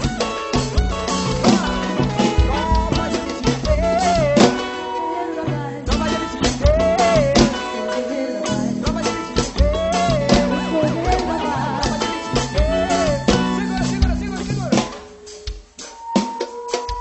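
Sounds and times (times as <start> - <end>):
band playing: 0.0 - 17.0.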